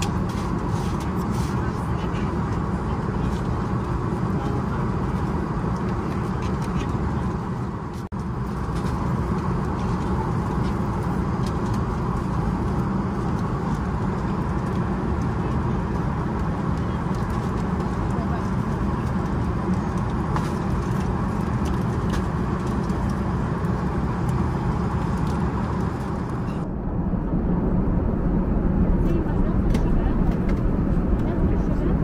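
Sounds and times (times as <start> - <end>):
airplane cabin drone: 0.0 - 32.0.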